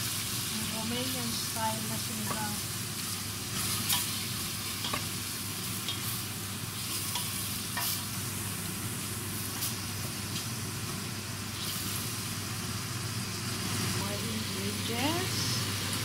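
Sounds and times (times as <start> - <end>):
pork sizzling in hot fat: 0.0 - 16.0.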